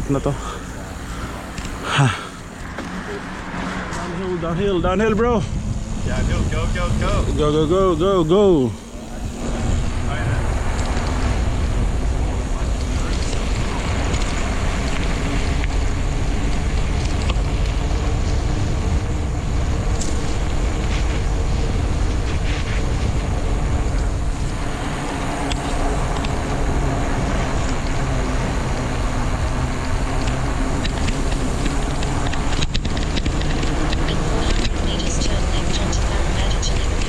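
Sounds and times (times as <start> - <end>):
wind rumbling over microphone: 3.4 - 37.0.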